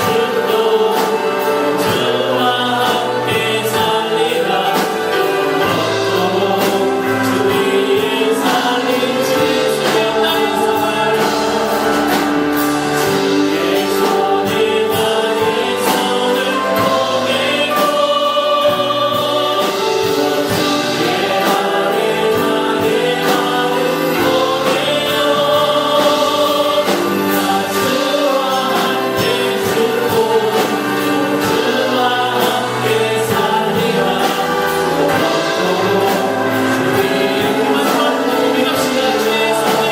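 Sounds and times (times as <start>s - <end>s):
choir singing worship song: 0.0s - 39.9s
instrumental accompaniment: 0.0s - 39.9s.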